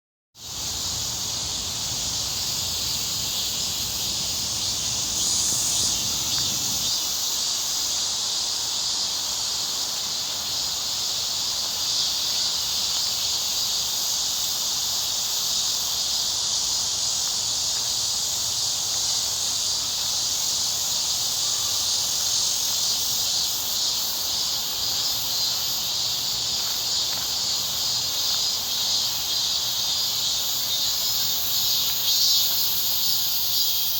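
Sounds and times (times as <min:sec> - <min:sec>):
insects trilling: 0:00.4 - 0:33.9.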